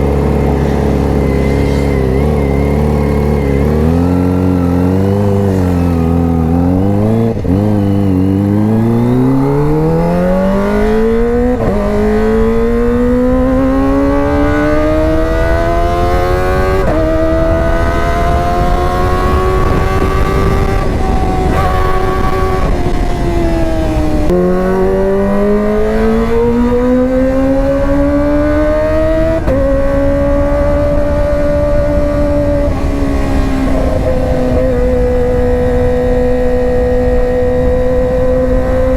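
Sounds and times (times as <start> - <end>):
motorcycle engine revving through gears: 0.0 - 38.9.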